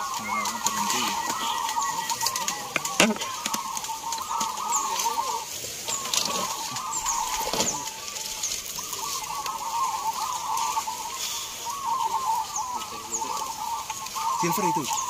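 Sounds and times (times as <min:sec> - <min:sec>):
doves cooing: 0:00.0 - 0:15.0
high bird chirps: 0:00.0 - 0:15.0.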